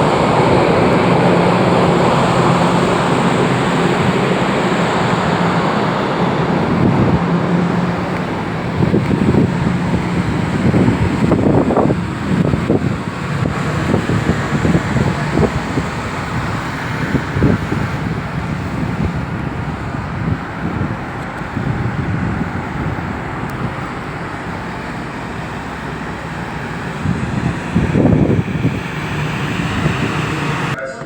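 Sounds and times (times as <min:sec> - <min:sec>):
wind buffeting microphone: 0:00.0 - 0:30.8
steady rumbling: 0:00.0 - 0:31.0.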